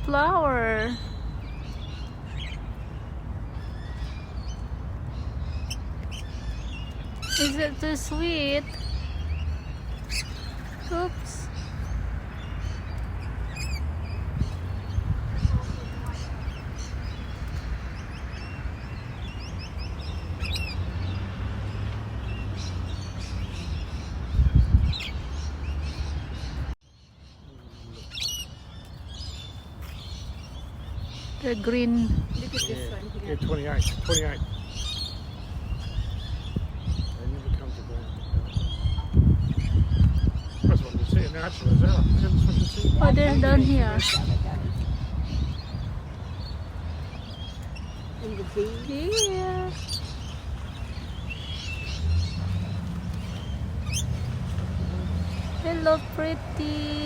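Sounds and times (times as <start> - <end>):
low wind rumble: 0.0 - 26.8, 27.8 - 57.0
birds chirping: 0.0 - 57.0.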